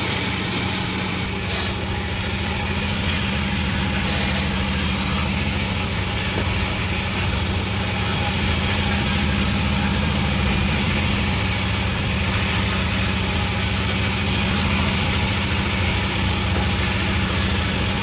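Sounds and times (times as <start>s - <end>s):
sawmill humming: 0.0s - 18.0s.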